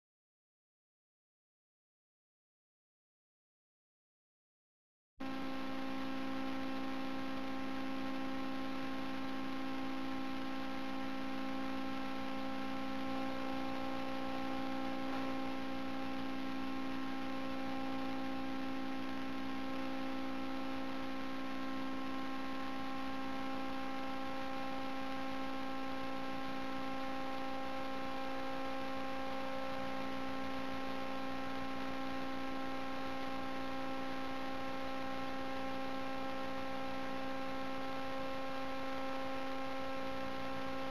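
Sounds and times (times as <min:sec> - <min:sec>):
steady machine hum: 0:05.2 - 0:40.9.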